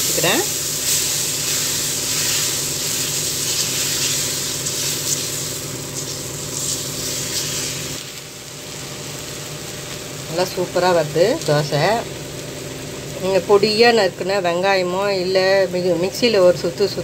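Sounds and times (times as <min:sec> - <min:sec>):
batter sizzling on hot griddle: 0:00.0 - 0:14.5
steady low hum: 0:00.0 - 0:17.0.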